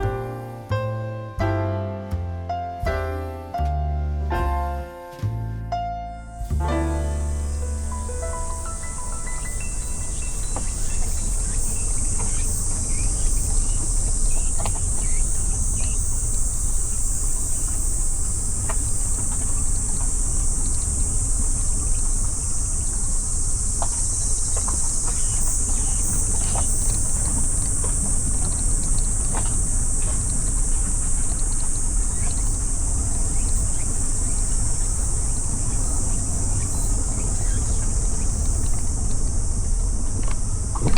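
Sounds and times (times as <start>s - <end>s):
car driving rumble: 0.0s - 40.9s
high-pitched insect chorus: 6.2s - 40.9s.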